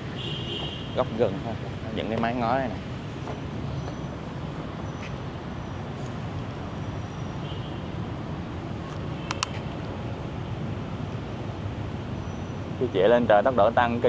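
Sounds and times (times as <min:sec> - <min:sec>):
city road traffic hum: 0:00.0 - 0:14.0.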